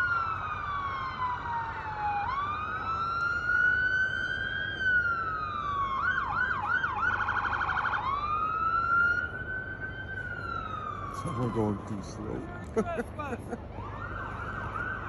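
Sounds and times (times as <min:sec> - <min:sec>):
emergency siren wailing and yelping: 0:00.0 - 0:15.0.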